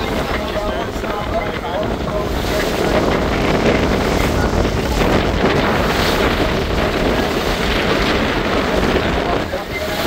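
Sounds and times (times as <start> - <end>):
rush of water and motor: 0.0 - 10.0
wind buffeting microphone: 0.0 - 10.0.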